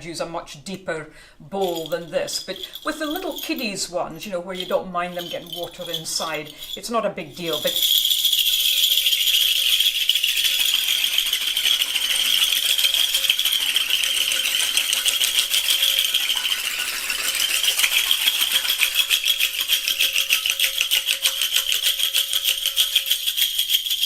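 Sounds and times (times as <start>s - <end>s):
sleigh bells jingling in water: 1.6s - 24.0s.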